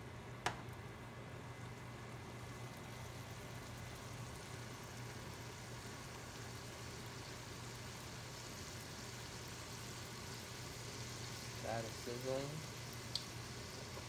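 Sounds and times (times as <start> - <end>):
low steady hum: 0.0 - 14.0
food sizzling in a pot: 1.6 - 14.0.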